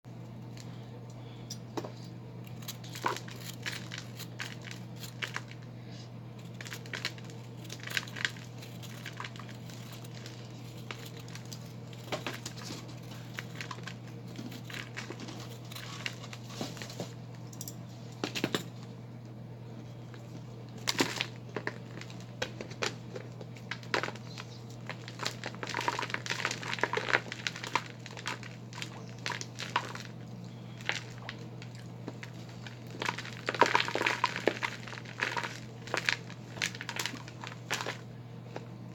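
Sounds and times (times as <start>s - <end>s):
steady low hum: 0.1s - 38.9s
cleaning powder balls crunching: 2.5s - 17.4s, 19.8s - 38.9s.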